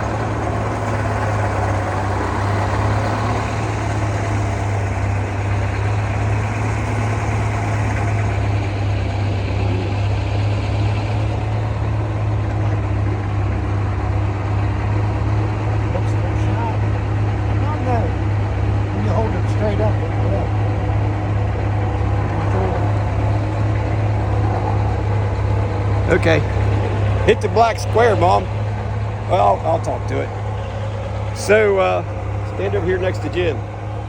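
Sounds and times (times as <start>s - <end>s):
sawmill engine humming: 0.0s - 34.0s.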